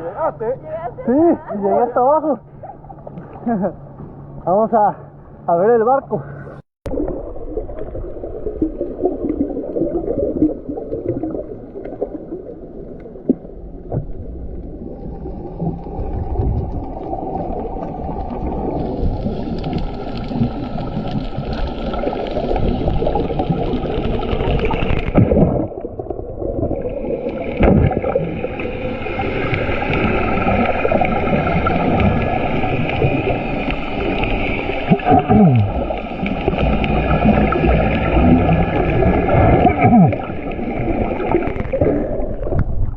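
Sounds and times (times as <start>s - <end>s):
underwater gurgling water: 1.6s - 5.4s, 6.2s - 42.9s.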